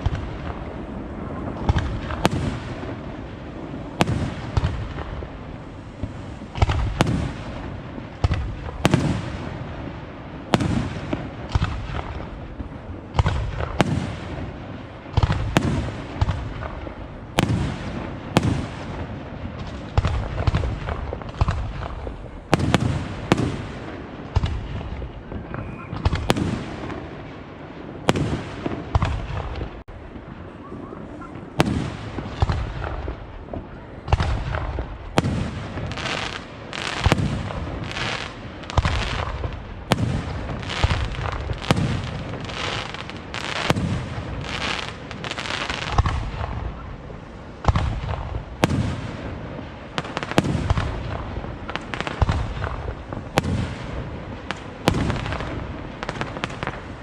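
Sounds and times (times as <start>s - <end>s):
firework crackle: 0.0s - 57.0s.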